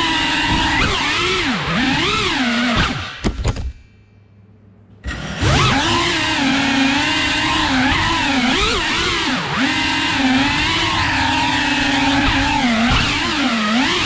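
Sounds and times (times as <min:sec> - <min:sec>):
drone motors whining: 0:00.0 - 0:03.3, 0:05.0 - 0:14.0.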